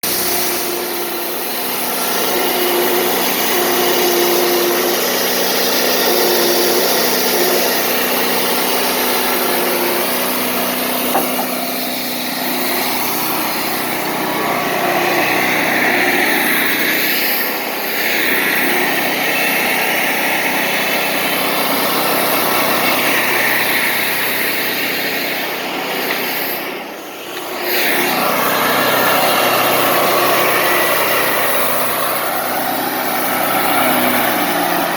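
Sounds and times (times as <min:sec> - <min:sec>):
band saw cutting log: 0:00.0 - 0:34.9
sawmill engine running: 0:00.0 - 0:34.9.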